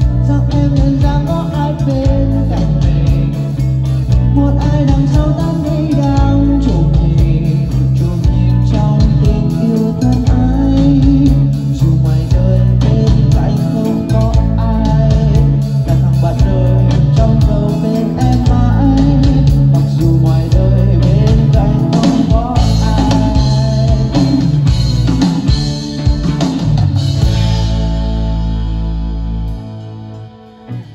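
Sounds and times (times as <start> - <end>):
band music with guitar and drums: 0.0 - 30.9.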